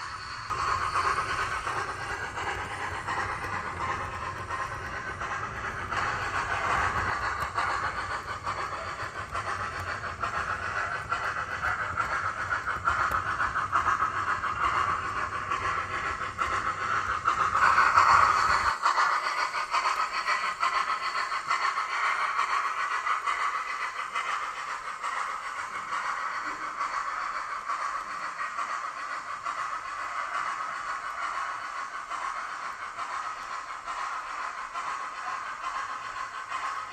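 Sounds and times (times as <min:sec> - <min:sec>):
model train steam hiss: 0:00.0 - 0:36.9.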